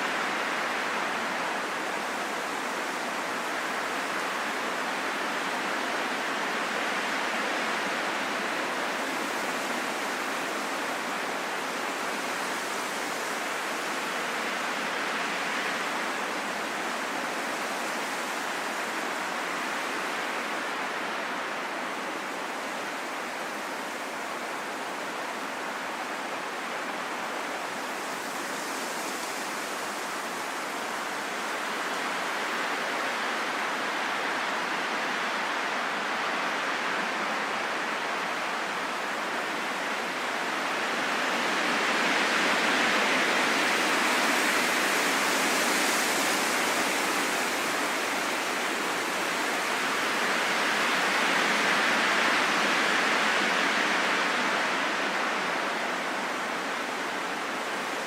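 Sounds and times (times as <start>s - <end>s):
wind blowing: 0.0s - 58.0s.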